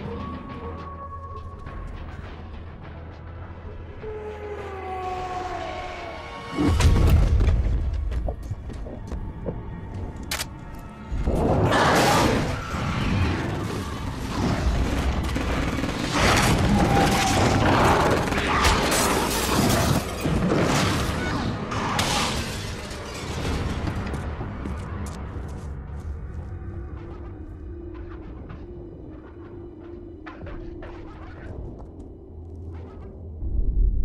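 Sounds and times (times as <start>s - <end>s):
action film music: 0.0s - 34.0s.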